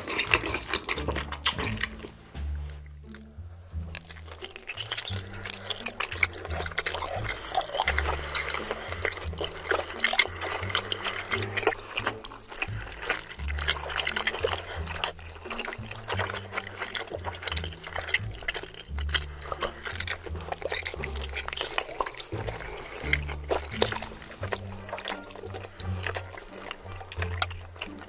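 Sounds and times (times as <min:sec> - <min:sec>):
background music with bass line: 0:00.0 - 0:28.0
wet chewing and slurping: 0:00.0 - 0:28.0.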